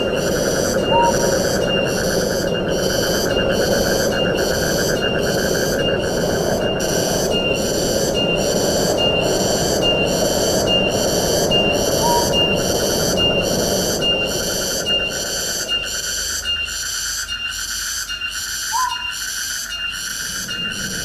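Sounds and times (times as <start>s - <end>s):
wind rushing through trees: 0.0s - 16.8s, 19.6s - 21.0s
shrill insect chorus pulsing: 0.0s - 21.0s.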